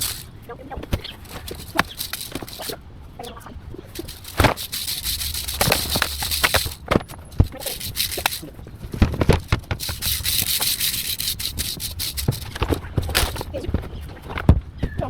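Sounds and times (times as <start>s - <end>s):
branches and leaves rustling: 0.0s - 15.0s.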